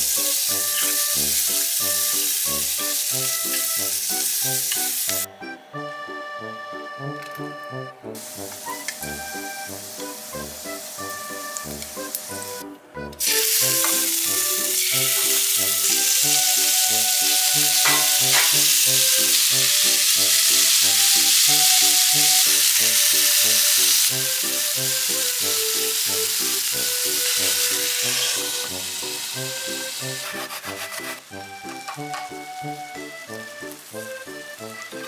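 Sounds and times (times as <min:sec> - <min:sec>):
meat sizzling in a frying pan: 0:00.0 - 0:05.3, 0:08.2 - 0:12.6, 0:13.2 - 0:35.0.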